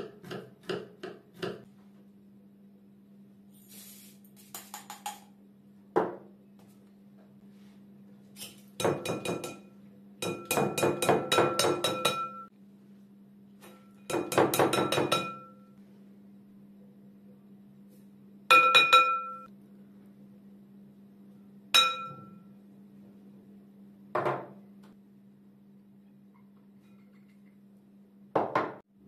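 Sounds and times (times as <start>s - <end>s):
faint steady hum: 5.2s - 29.0s.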